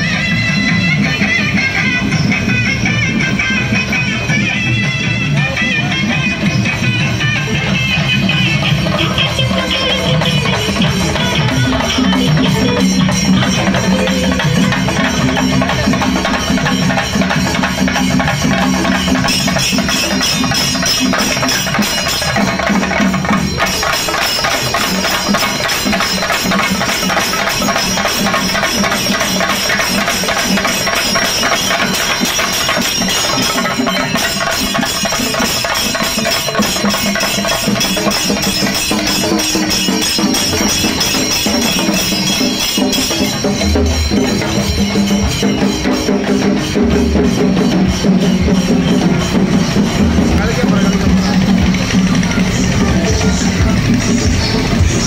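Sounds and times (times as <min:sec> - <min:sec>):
drums beaten with sticks: 0:00.0 - 0:55.0
ringing tones: 0:00.0 - 0:55.0.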